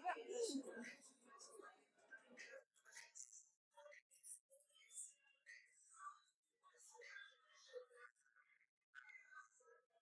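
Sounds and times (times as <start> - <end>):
faint muffled voices: 0.0 - 10.0.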